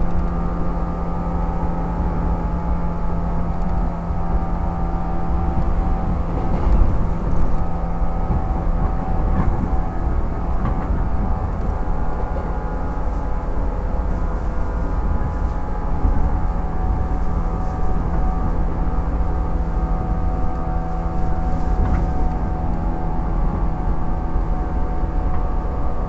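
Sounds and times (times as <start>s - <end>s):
electric train motor hum: 0.0s - 26.0s
wheels rumbling on rail: 0.0s - 26.0s.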